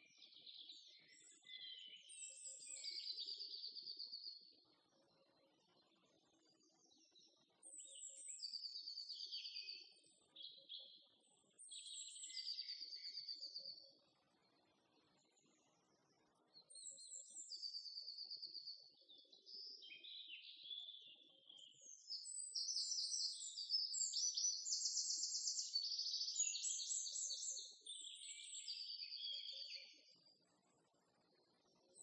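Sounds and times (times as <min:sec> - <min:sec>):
songbirds singing: 0:00.0 - 0:05.2, 0:05.8 - 0:30.4.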